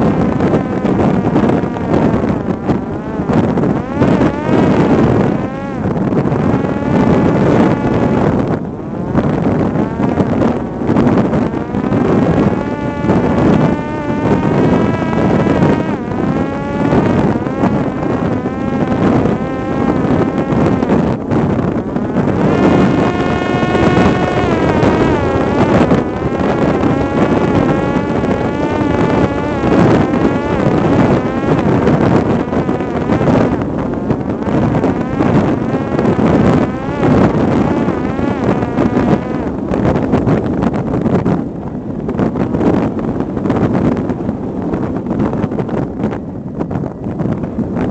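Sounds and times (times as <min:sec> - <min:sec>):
drone motor and propeller whining: 0:00.0 - 0:47.9
wind buffeting microphone: 0:00.0 - 0:47.9.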